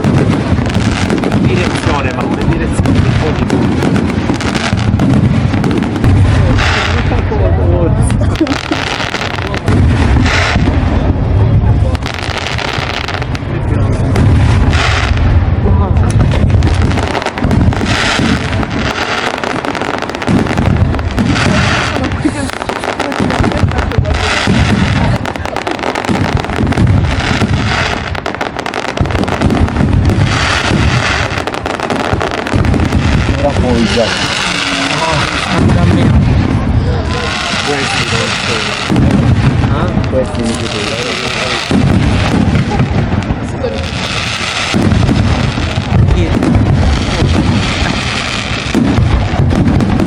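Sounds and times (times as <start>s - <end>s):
fireworks crackling: 0.0s - 50.0s
low rumble of bursts: 9.3s - 50.0s.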